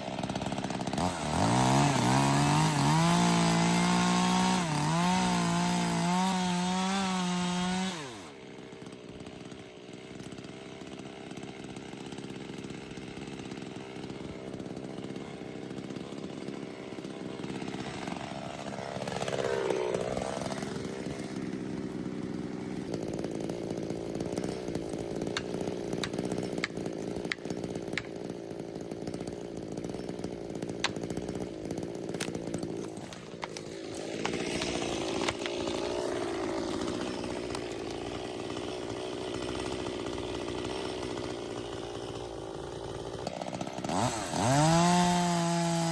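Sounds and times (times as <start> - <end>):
chainsaw running: 0.0 - 45.9.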